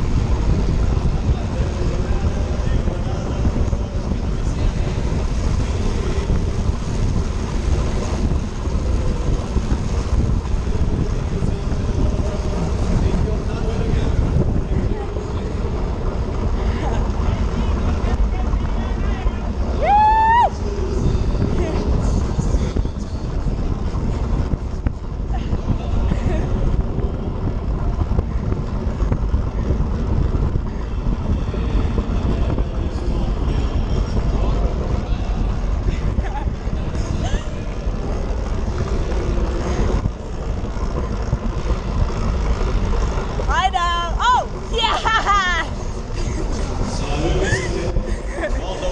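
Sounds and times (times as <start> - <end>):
bike tyres rolling on wooden boards: 0.0 - 48.9
wind rumble on camera: 0.0 - 48.9.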